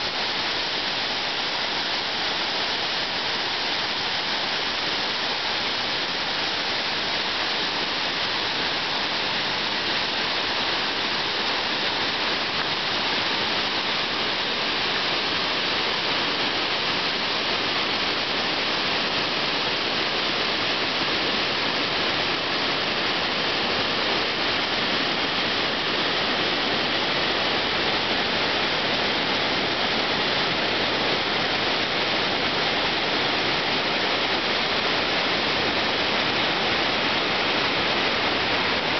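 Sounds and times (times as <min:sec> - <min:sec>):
water rushing down spillway: 0:00.0 - 0:38.9.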